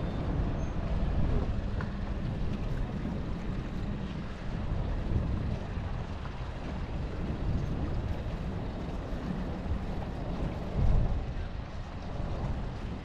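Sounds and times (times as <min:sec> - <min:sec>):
boat rushing through water: 0:00.0 - 0:13.0
wind buffeting microphone: 0:00.0 - 0:13.0.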